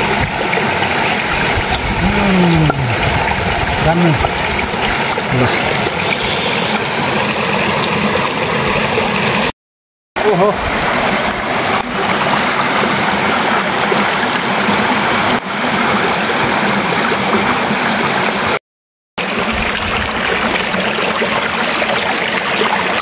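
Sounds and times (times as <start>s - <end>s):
stream rushing over rocks: 0.0s - 9.5s, 10.2s - 18.6s, 19.2s - 23.0s.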